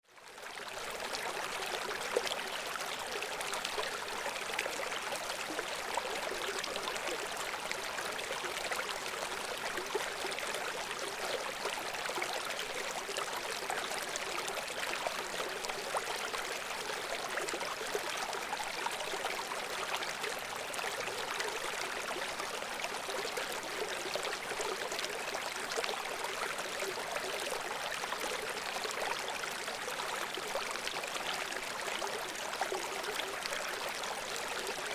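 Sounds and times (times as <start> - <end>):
brook running water: 0.0 - 34.9.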